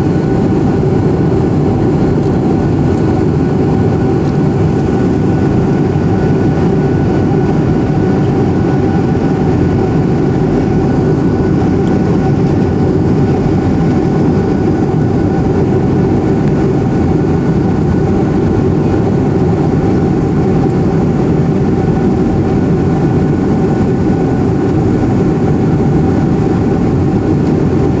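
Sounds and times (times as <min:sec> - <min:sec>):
airplane cabin engine drone: 0:00.0 - 0:28.0.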